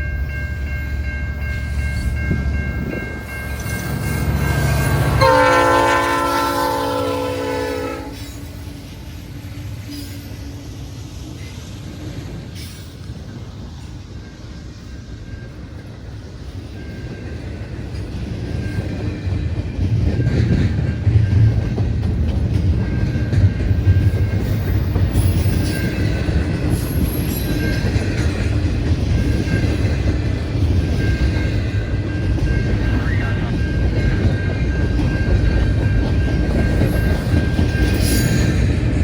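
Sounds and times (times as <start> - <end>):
freight train passing: 0.0 - 39.0.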